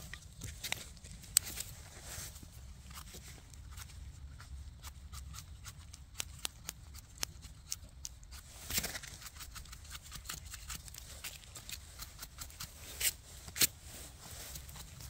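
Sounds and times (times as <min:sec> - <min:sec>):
knife scraping mushroom stems: 0:00.4 - 0:15.0.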